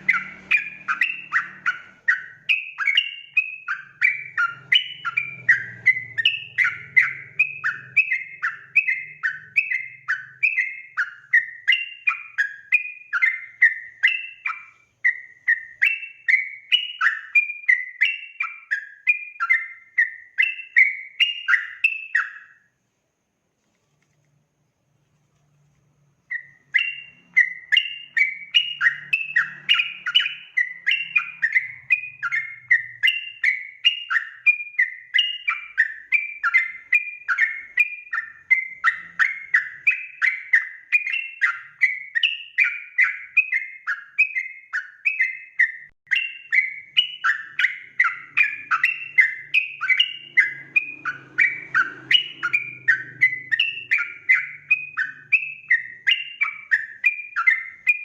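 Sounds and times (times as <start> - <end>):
bird chirping song: 0.0 - 23.1, 23.7 - 58.0.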